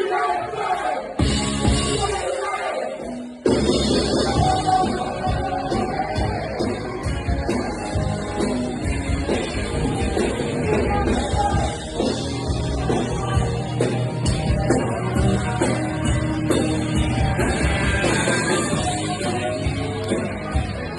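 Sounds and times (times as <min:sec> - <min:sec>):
rock band playing live: 0:01.1 - 0:20.9
steady drum beat: 0:01.2 - 0:02.4, 0:03.4 - 0:20.9.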